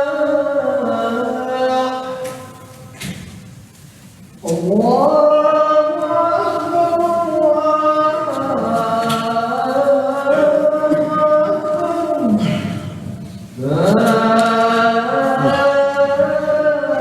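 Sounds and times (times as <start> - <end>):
man chanting: 0.0 - 2.9, 4.4 - 17.0.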